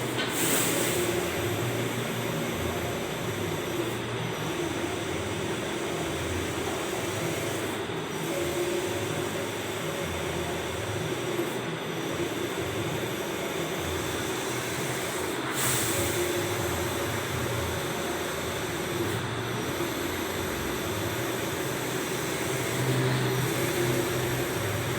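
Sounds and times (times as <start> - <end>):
printer mechanical whirr: 0.0 - 24.9.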